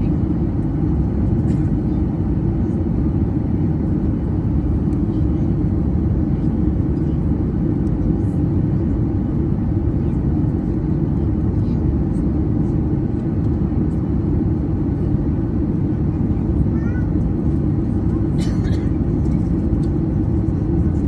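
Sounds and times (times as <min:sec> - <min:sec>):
jet engines low rumble in cabin: 0:00.0 - 0:21.0.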